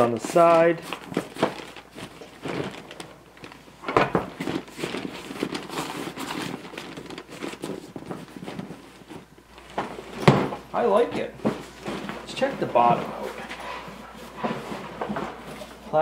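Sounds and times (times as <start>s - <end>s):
fabric bag rustling: 0.0s - 16.0s.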